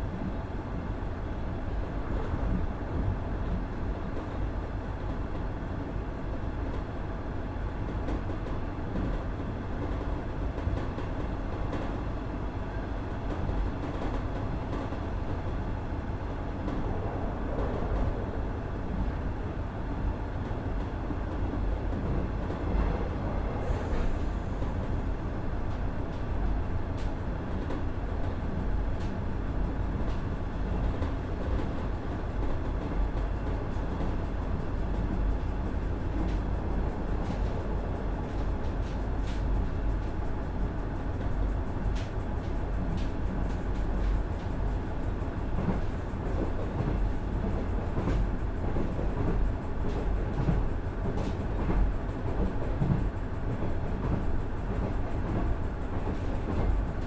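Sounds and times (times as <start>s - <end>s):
train engine low rumble: 0.0s - 57.0s.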